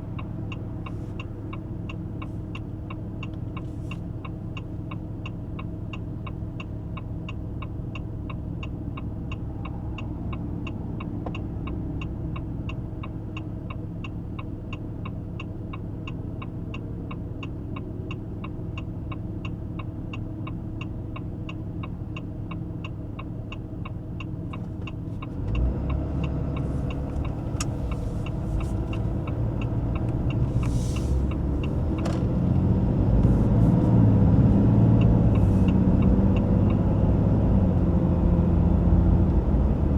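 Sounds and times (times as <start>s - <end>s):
diesel truck engine: 0.0s - 39.9s
turn signal ticking: 0.0s - 39.9s.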